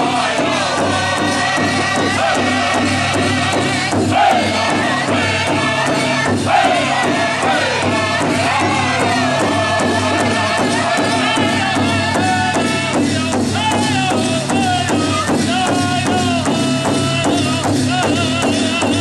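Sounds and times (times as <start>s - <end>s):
group singing high-pitched: 0.0s - 17.4s
large hide drum beat: 0.0s - 19.0s.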